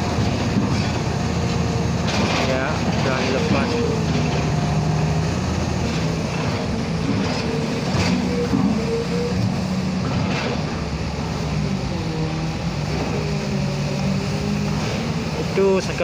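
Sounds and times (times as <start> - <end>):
crane machinery running: 0.0 - 16.0.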